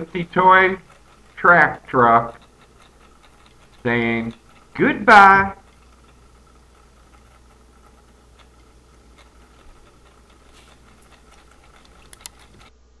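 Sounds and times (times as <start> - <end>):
sharp clicks: 0.0 - 12.7
turntable motor hum: 0.0 - 13.0.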